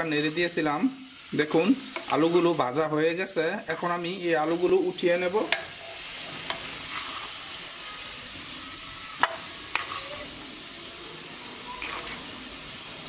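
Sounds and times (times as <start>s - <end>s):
potatoes sizzling in hot oil: 0.0s - 13.0s.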